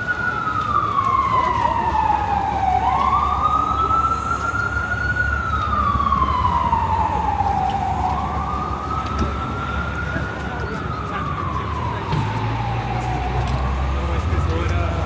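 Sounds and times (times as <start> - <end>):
emergency vehicle siren wailing: 0.0 - 15.0
low city traffic rumble: 0.0 - 15.0.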